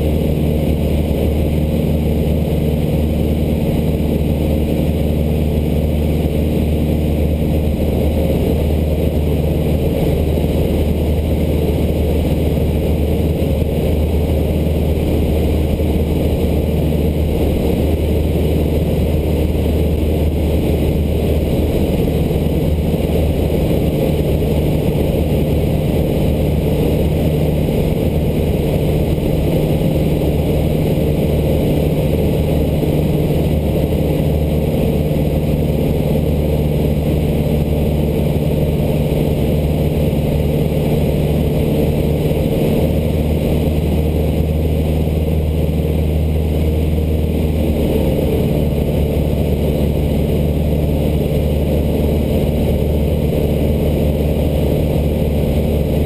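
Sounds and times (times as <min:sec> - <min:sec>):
small plane engine drone: 0:00.0 - 0:56.0.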